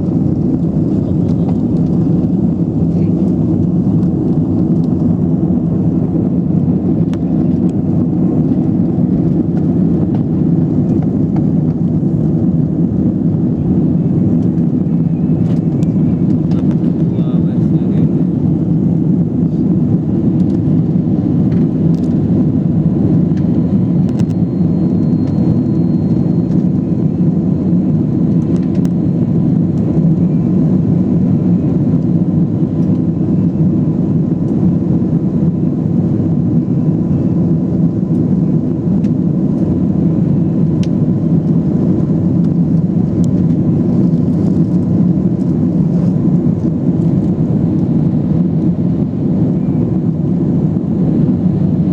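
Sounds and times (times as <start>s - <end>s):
airplane engine and airflow noise: 0.0s - 51.9s.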